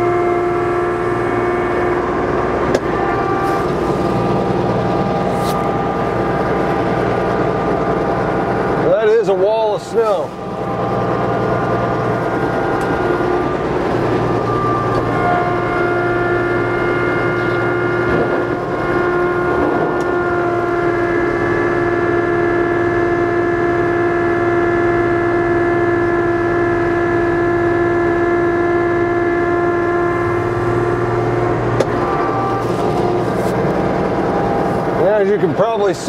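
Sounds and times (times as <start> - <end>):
diesel tractor engine running: 0.0 - 36.0
steady whine: 0.0 - 36.0.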